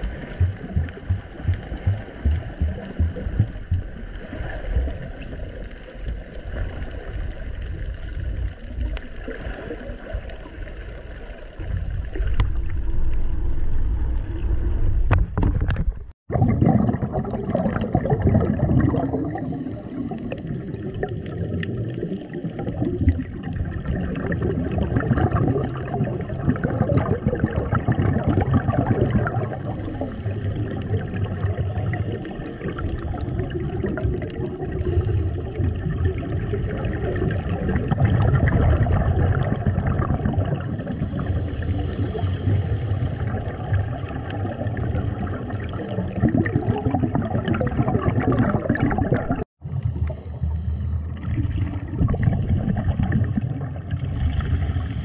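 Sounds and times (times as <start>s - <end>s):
dense bubbling of exhaled air: 0.0s - 55.0s.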